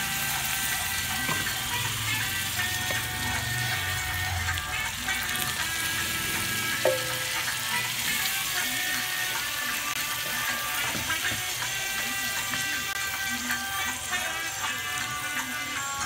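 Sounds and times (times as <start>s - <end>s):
meat sizzling in hot oil: 0.0s - 16.0s
upbeat reggae music: 0.0s - 16.0s.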